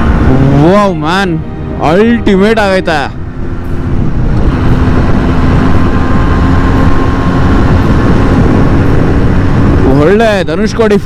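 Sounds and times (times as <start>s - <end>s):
motorcycle engine hum: 0.0s - 11.0s
wind noise: 0.0s - 11.0s.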